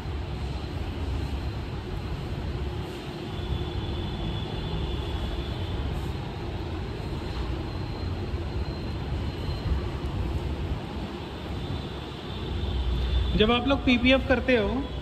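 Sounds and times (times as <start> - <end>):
low rumbling noise with hiss: 0.0 - 15.0.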